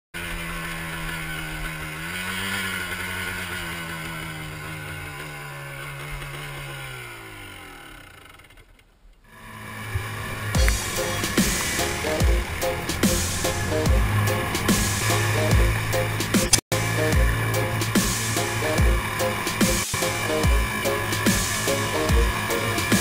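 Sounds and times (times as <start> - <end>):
atv engine running: 0.2 - 23.0.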